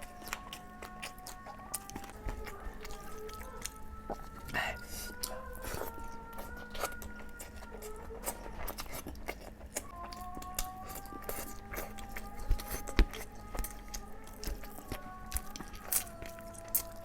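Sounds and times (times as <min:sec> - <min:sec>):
soft background music: 0:00.0 - 0:17.0
wet chewing and mouth smacks: 0:00.0 - 0:17.0.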